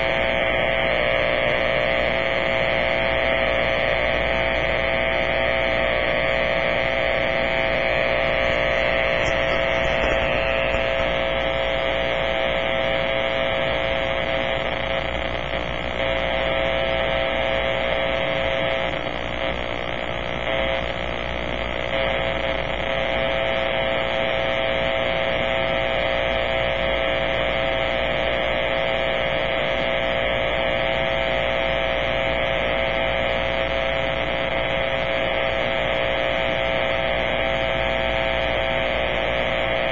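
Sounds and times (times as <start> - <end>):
harsh electrical buzz from radio: 0.0 - 39.9.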